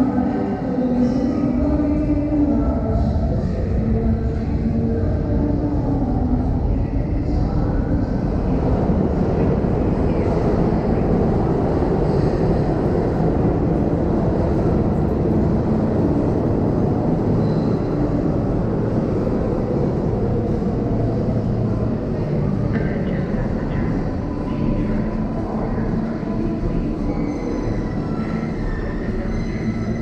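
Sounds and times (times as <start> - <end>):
subway station rumble: 0.0 - 30.0.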